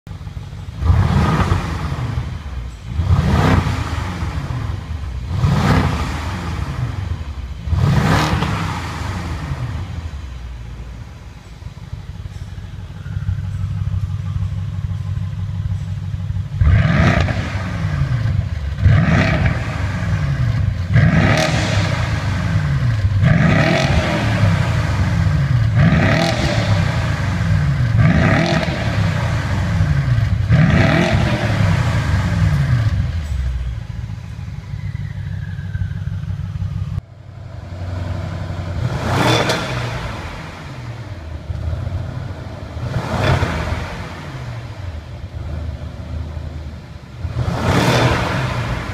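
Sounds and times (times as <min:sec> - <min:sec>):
car engine idling: 0:00.0 - 0:48.9
car engine revving: 0:00.1 - 0:48.9.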